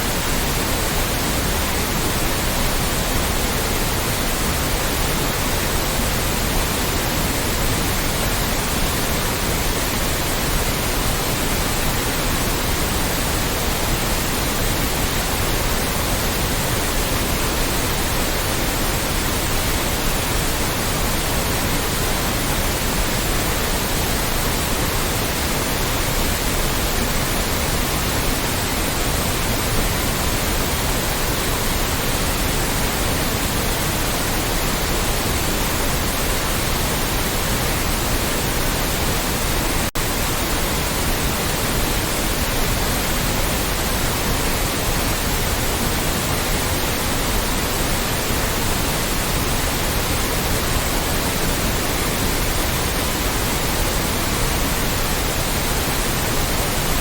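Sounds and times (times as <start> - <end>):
loud steady white noise: 0.0 - 57.0.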